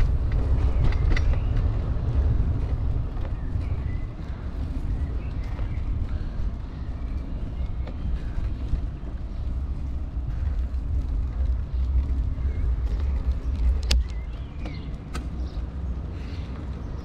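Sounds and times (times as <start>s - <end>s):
bicycle tyre and frame vibration: 0.0s - 17.0s
wind rumble on microphone: 0.0s - 17.0s.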